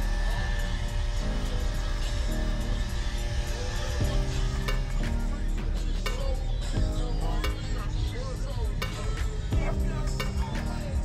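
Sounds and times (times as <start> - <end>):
music with heavy bass line: 0.0 - 11.0.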